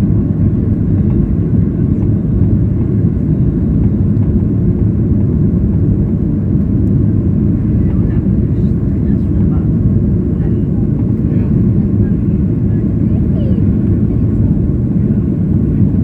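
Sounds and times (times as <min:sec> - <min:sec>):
jet engines low rumble in cabin: 0:00.0 - 0:16.0.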